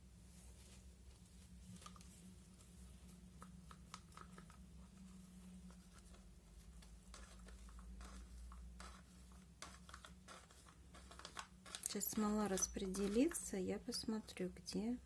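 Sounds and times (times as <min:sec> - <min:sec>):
low electrical hum: 0:00.0 - 0:15.0
scratchy handling noises: 0:00.2 - 0:14.9.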